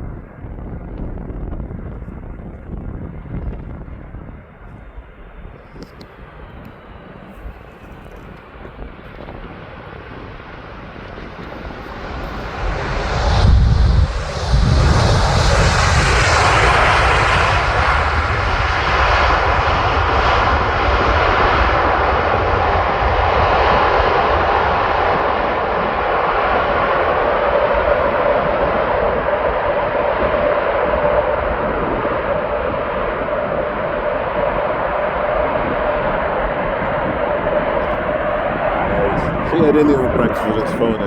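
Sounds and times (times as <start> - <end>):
jet engines rumbling: 0.0 - 41.0.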